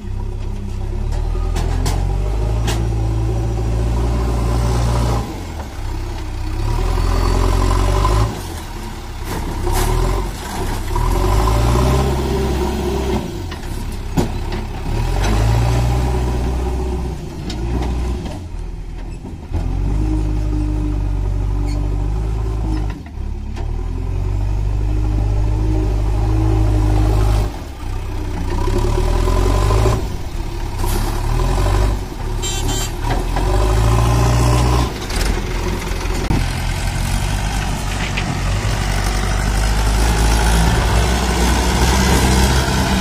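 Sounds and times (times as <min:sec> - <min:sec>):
diesel engine revving: 0:00.8 - 0:43.0.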